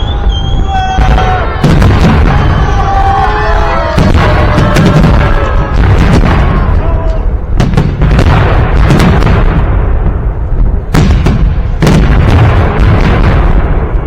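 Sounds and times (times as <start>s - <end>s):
deep rumble of fireworks booms: 0.0s - 14.0s
fireworks shells exploding: 0.0s - 14.0s.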